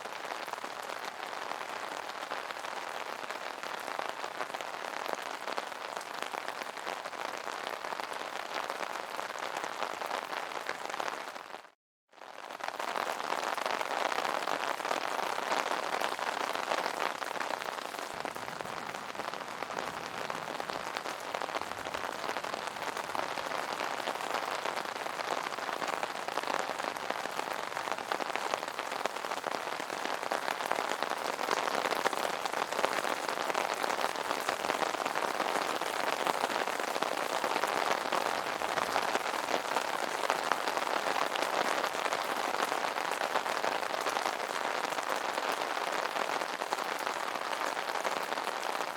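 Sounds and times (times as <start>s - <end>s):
rain pattering on an umbrella: 0.0s - 48.9s.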